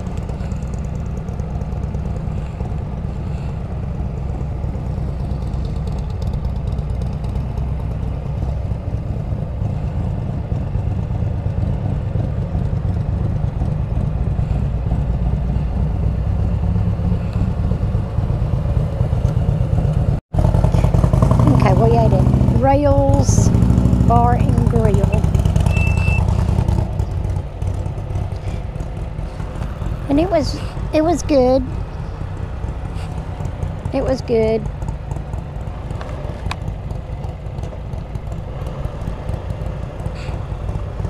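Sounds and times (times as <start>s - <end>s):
motorcycle engine rumbling: 0.0s - 41.0s.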